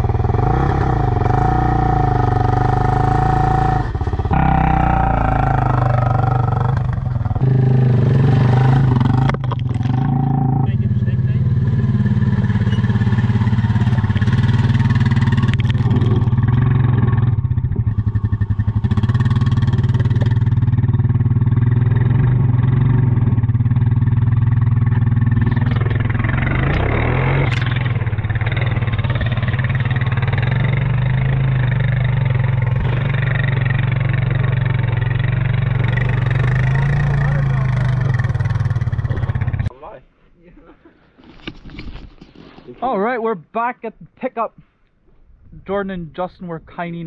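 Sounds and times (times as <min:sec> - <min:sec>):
vehicle engine running: 0:00.0 - 0:39.7.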